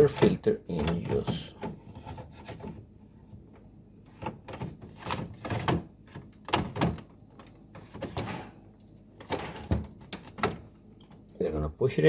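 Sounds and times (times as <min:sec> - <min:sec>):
plastic knocks and clunks: 0:00.0 - 0:08.6, 0:09.2 - 0:11.2.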